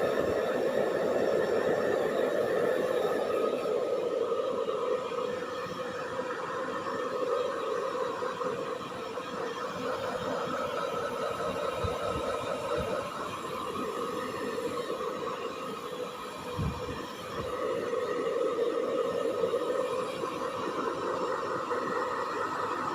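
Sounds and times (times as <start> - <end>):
hair dryer running: 0.0 - 22.9.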